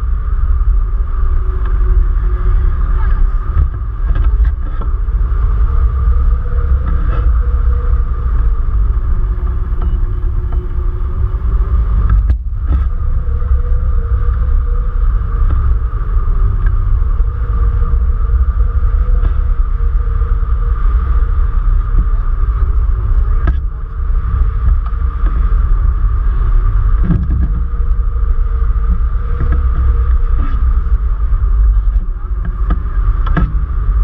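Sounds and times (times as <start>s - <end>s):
high hum: 0.0s - 34.0s
wind noise rumbling: 0.0s - 34.0s.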